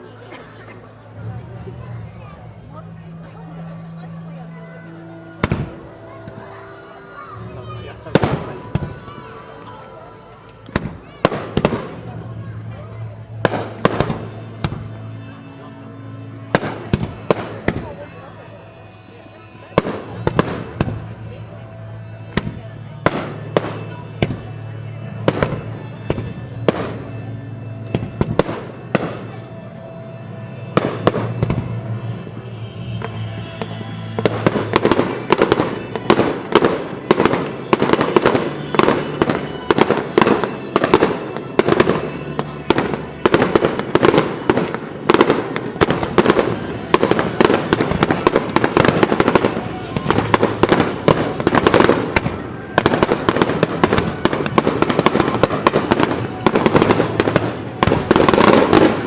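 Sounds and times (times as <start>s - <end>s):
music soundtrack: 0.0s - 59.0s
fireworks bursting: 0.7s - 18.5s, 19.3s - 59.0s.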